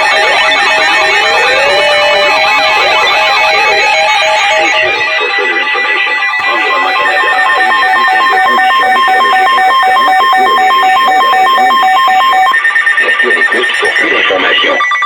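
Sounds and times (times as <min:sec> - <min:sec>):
warbling two-tone alarm: 0:00.0 - 0:15.0.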